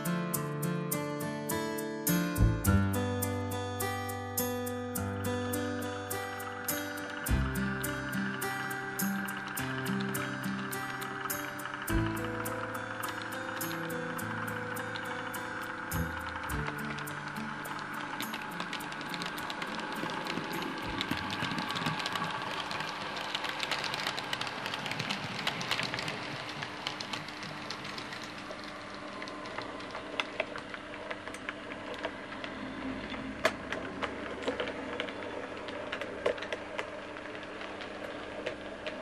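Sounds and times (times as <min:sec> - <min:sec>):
model train motor hum: 0:03.5 - 0:39.0
wheels clicking over rail joints: 0:05.5 - 0:39.0.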